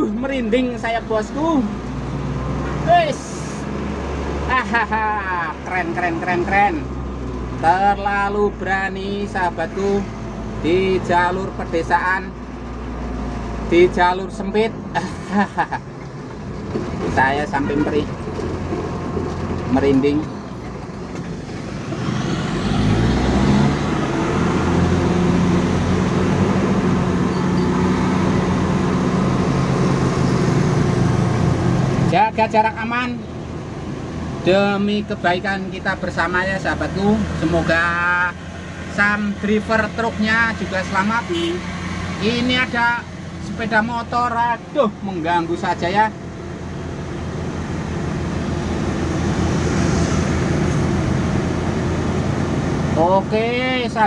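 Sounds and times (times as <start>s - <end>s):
diesel truck engine climbing: 0.0s - 54.0s.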